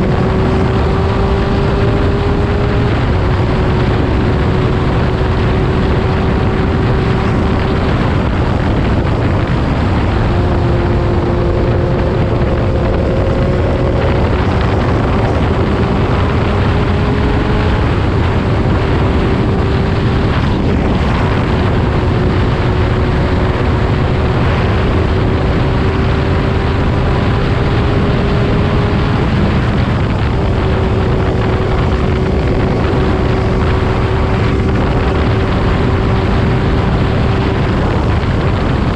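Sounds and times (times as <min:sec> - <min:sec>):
faint motorcycle engine drone: 0:00.0 - 0:38.9
wind blast on microphone: 0:00.0 - 0:38.9.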